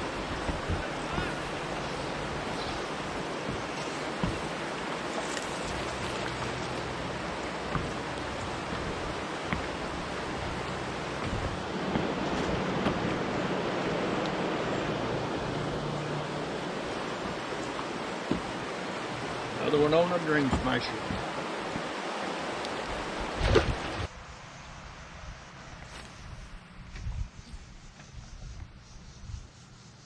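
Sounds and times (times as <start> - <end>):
river water over rocks: 0.0 - 24.1
water splashing: 0.0 - 24.1.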